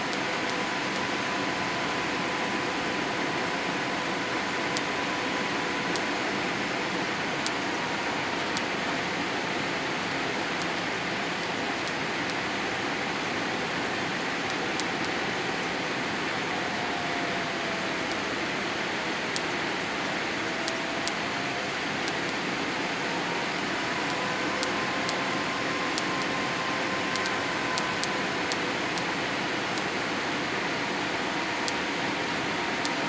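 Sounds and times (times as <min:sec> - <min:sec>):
faint engine whine: 0:00.0 - 0:33.0.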